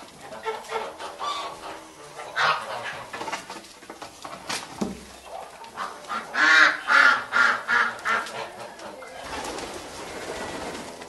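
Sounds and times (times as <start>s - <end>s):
geese honking: 0.0s - 3.7s, 5.1s - 10.8s.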